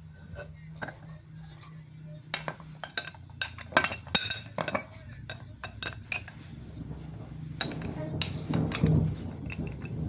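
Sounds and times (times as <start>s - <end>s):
utensils and dishes clinking: 0.3s - 10.0s.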